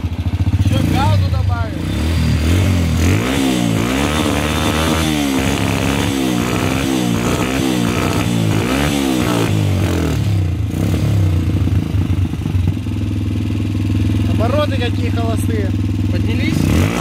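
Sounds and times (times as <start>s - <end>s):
motorcycle engine revving and idling: 0.0s - 17.0s.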